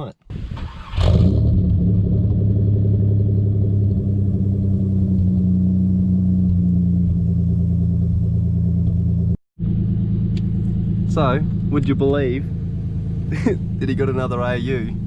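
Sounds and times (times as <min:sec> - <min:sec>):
car engine running: 0:01.2 - 0:15.0.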